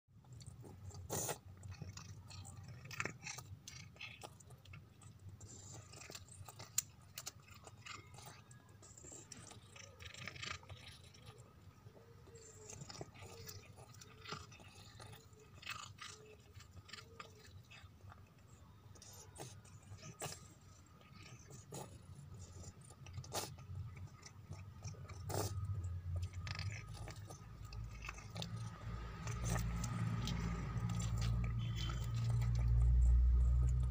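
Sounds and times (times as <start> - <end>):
cat chewing and crunching food: 0.1 - 33.9.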